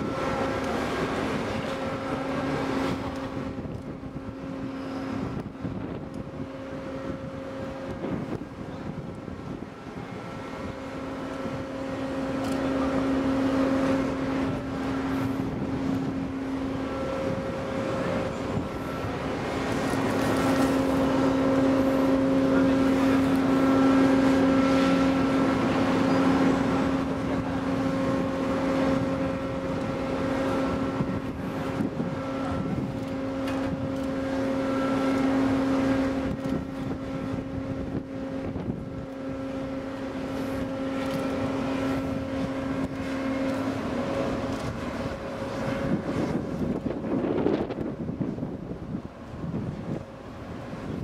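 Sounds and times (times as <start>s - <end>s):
crane machinery droning hum: 0.0s - 51.0s.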